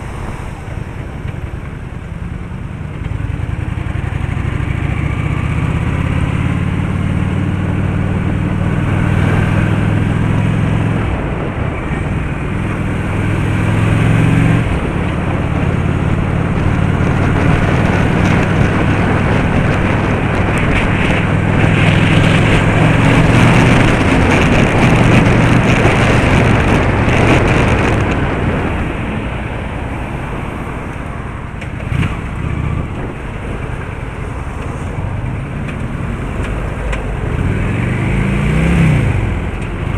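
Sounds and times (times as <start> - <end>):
car engine hum: 0.0 - 39.9
road and tyre noise: 0.0 - 39.9.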